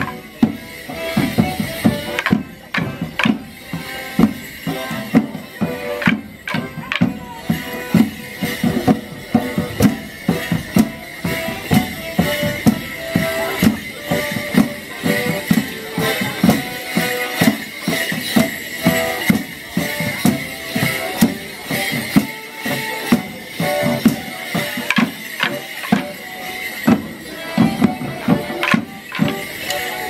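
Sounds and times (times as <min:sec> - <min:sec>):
band playing dance tune: 0:00.0 - 0:30.0
steady drum beat: 0:00.0 - 0:30.0.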